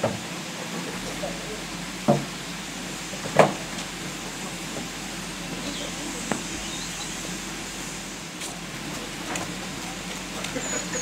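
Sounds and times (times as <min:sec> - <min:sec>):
steam locomotive hiss: 0:00.0 - 0:11.0.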